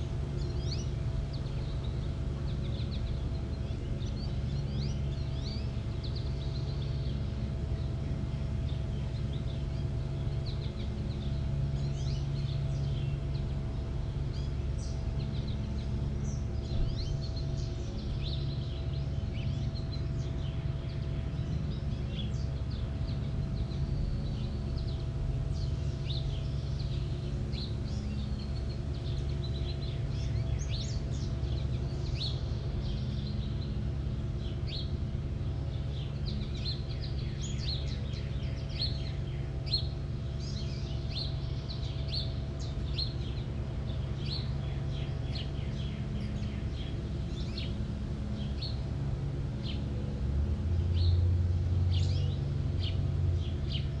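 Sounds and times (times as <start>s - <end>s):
faint hum: 0.0s - 54.0s
songbirds chirping and twittering: 0.0s - 54.0s
steady low rumble: 0.0s - 54.0s.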